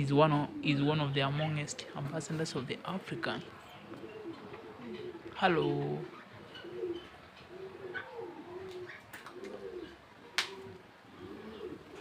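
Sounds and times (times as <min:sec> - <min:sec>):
bird cooing: 0:00.0 - 0:12.0.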